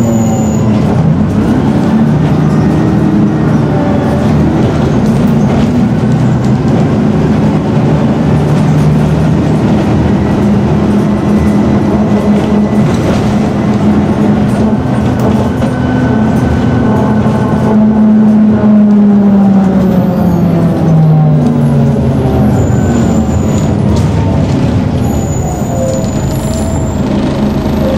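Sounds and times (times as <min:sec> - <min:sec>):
bus diesel engine running: 0:00.0 - 0:27.9.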